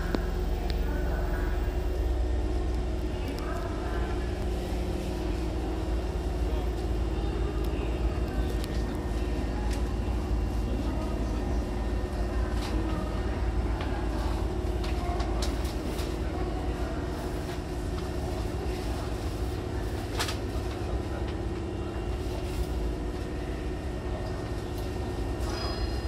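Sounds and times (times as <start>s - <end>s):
train low hum: 0.0s - 26.0s.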